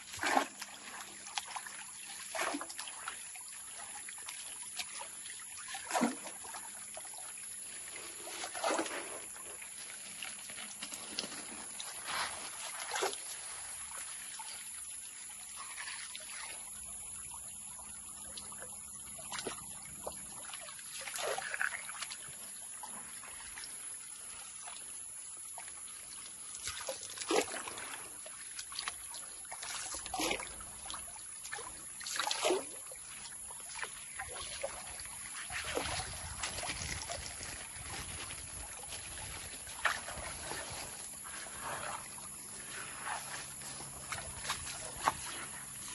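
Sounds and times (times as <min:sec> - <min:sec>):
water splash: 0:00.0 - 0:14.6, 0:19.2 - 0:22.3, 0:26.5 - 0:45.9
water sloshing in a pan: 0:00.0 - 0:45.9.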